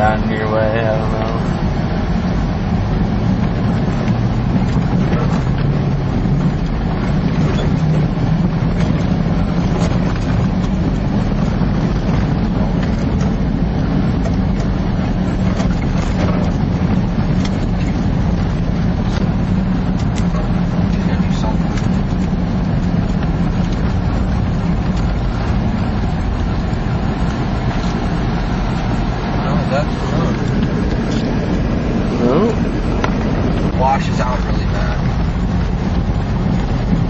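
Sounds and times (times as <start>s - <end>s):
vehicle engine driving: 0.0s - 37.0s.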